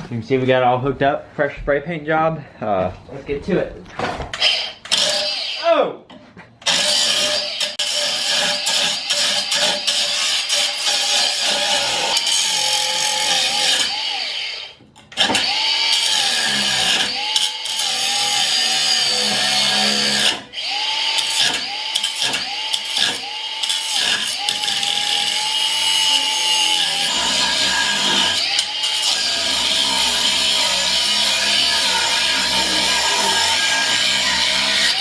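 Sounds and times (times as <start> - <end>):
power tool cutting steel: 4.4 - 5.7, 6.6 - 35.0.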